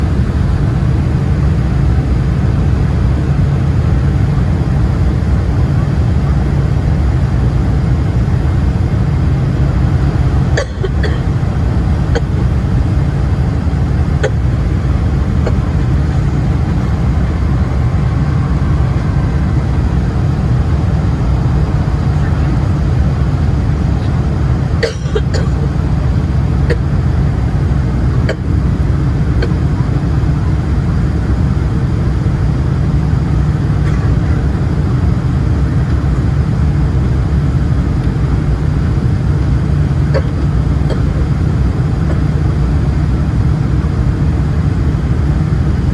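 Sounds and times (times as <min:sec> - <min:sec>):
airliner cabin engine roar: 0:00.0 - 0:45.9.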